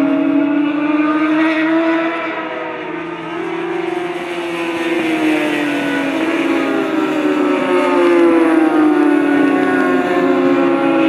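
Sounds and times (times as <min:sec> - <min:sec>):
racing motorcycles revving: 0:00.0 - 0:11.0.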